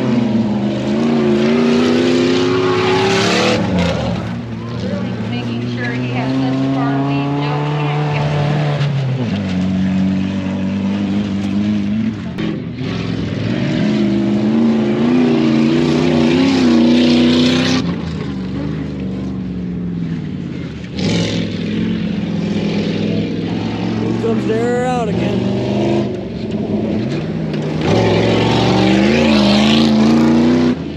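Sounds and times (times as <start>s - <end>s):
truck engines revving: 0.0s - 30.9s.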